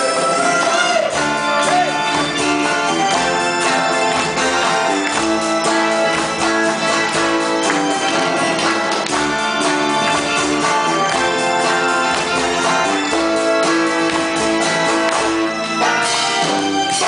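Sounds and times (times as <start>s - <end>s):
guitar: 0.0s - 17.0s
live band playing pop song: 0.0s - 17.0s.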